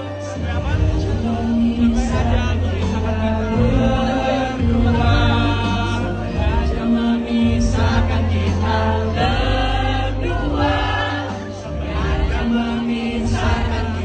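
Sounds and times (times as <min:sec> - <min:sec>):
sustained bass notes: 0:00.0 - 0:14.0
voices singing together: 0:00.0 - 0:14.0.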